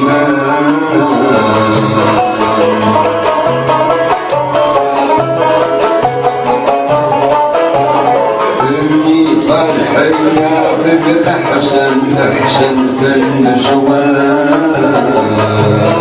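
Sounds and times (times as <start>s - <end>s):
plucked string ensemble: 0.0s - 16.0s.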